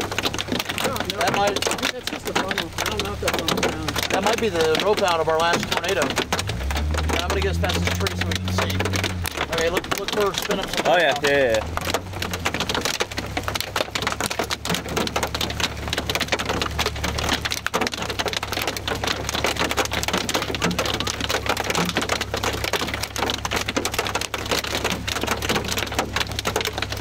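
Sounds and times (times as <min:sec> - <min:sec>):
rain drops rattling: 0:00.0 - 0:27.0.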